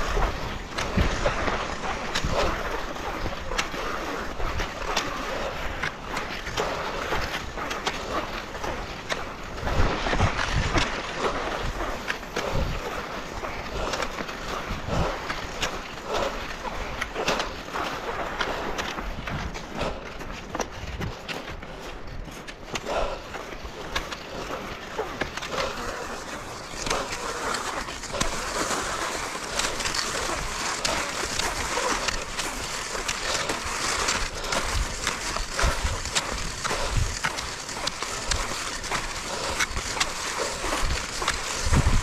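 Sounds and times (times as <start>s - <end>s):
skis scraping over snow: 0.0s - 42.0s.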